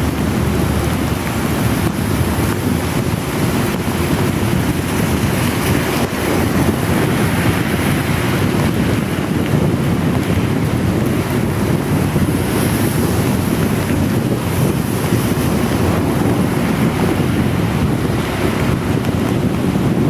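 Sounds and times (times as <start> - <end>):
heavy rain hissing: 0.0 - 20.0
wind rushing over microphone: 0.0 - 20.0.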